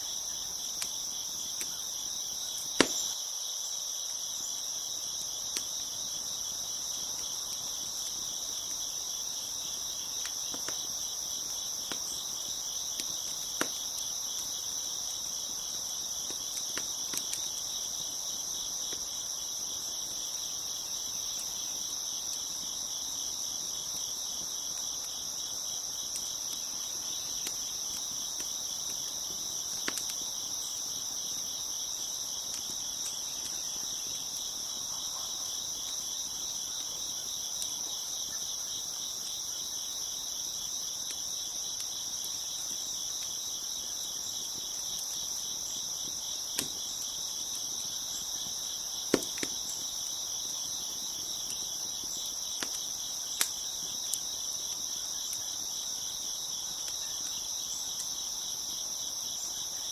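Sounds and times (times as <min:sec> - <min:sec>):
crickets chirping: 0:00.0 - 0:59.9
wood fire popping: 0:00.1 - 0:03.2, 0:05.0 - 0:58.7.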